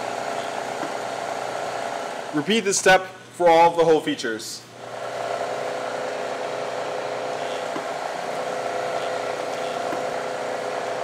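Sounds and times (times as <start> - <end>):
milling machine spindle humming: 0.0 - 2.6, 4.8 - 11.0.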